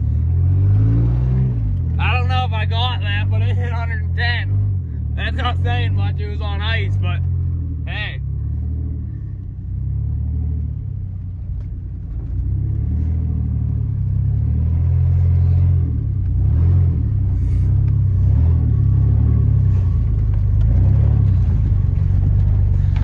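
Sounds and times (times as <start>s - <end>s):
truck engine running: 0.0s - 0.6s, 1.2s - 23.0s.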